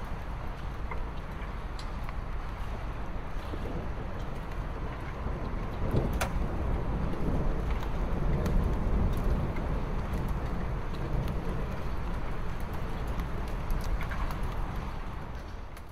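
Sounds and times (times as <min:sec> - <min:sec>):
steady storm noise: 0:00.0 - 0:15.9.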